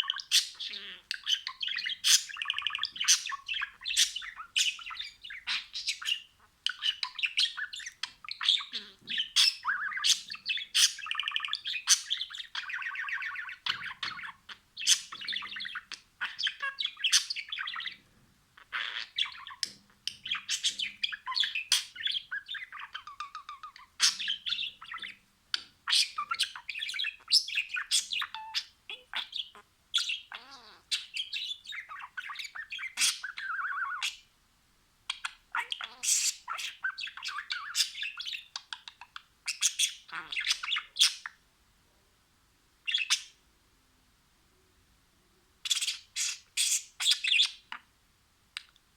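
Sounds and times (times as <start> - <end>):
budgerigars warbling and chirping: 0.0 - 34.3, 35.1 - 41.4, 42.9 - 43.4, 45.6 - 47.9.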